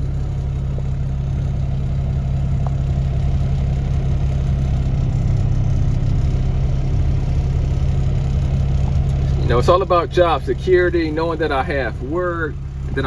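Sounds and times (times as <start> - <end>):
truck diesel engine humming: 0.0 - 13.0.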